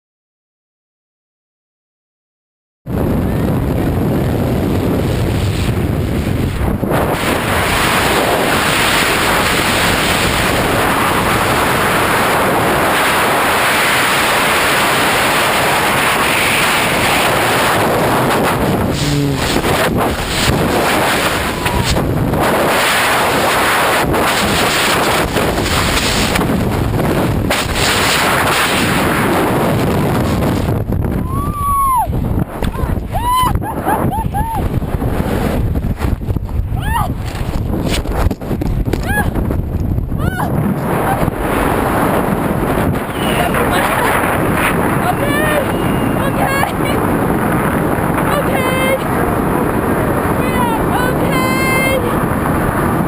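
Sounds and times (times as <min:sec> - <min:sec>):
wind rushing over microphone: 0:02.9 - 0:53.0.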